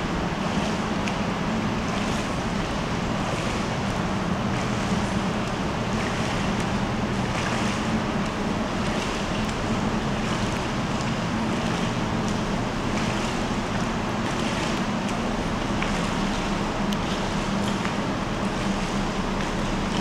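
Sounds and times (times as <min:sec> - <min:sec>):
low even hum: 0:00.0 - 0:20.0
swimmer splashing: 0:00.0 - 0:20.0.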